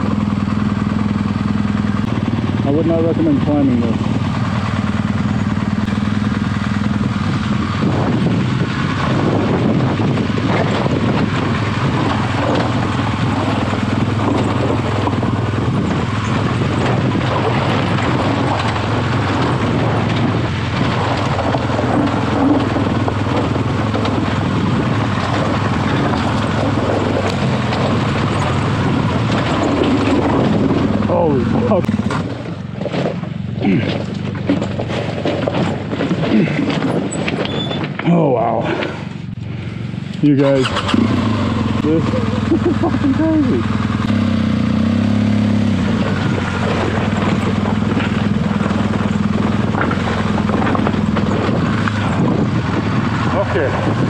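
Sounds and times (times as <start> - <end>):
wind buffeting microphone: 0.0 - 38.0, 40.4 - 54.0
motorcycle engine under load: 0.0 - 54.0.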